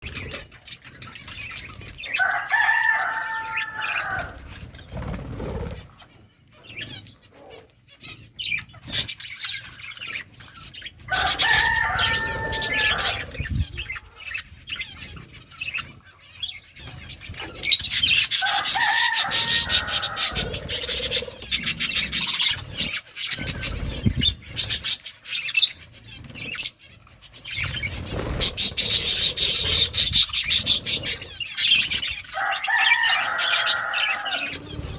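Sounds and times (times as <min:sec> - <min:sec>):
birds chirping and chattering: 0:00.0 - 0:34.9.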